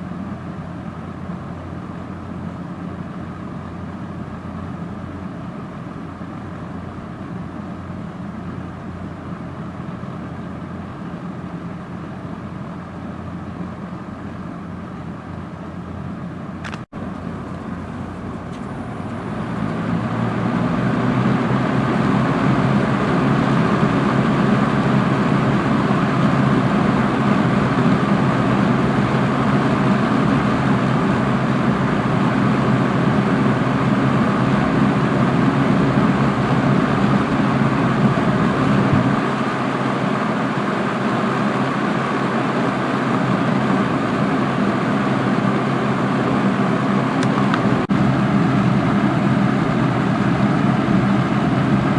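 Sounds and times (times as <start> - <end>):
box fan running: 0.0 - 51.9.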